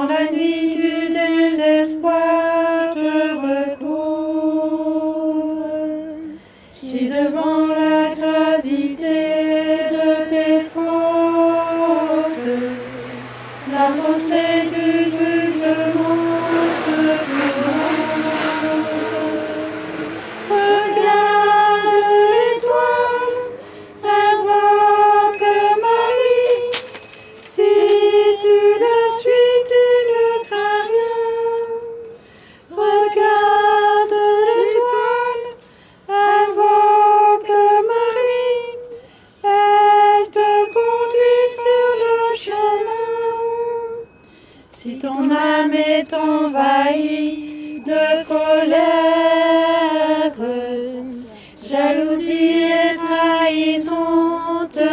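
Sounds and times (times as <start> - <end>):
woman singing a hymn unaccompanied: 0.0 - 54.9.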